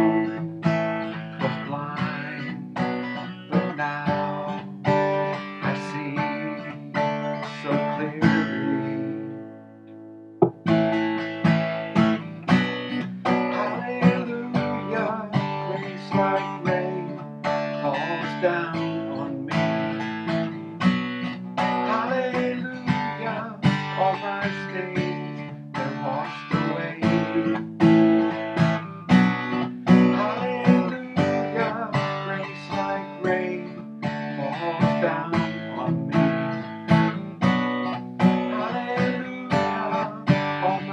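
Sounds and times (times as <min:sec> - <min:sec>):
acoustic guitar strumming chords: 0:00.0 - 0:40.9.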